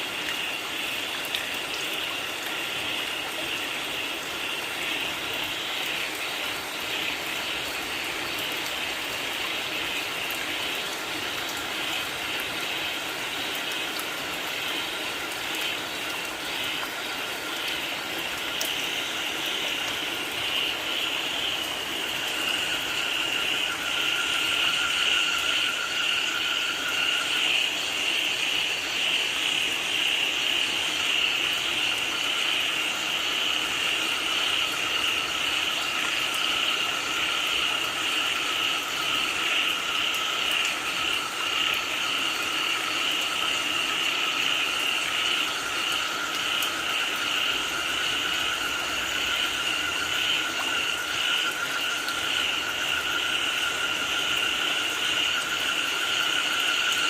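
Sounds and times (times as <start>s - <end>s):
falling rain: 0.0s - 57.0s
frogs calling: 0.0s - 57.0s.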